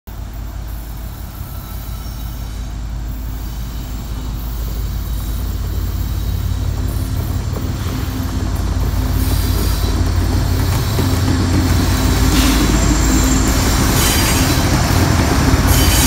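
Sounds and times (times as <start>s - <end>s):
diesel locomotive engine drone: 0.1s - 16.0s.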